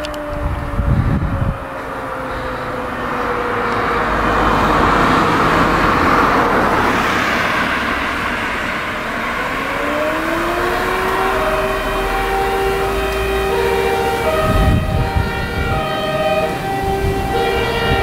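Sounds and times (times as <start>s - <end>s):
distant siren winding up: 0.0s - 18.0s
car driving past: 1.9s - 18.0s.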